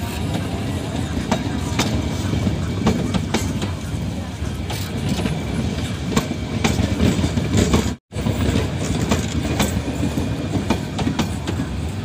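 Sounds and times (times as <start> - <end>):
rumble of train wheels on rail: 0.0 - 12.0.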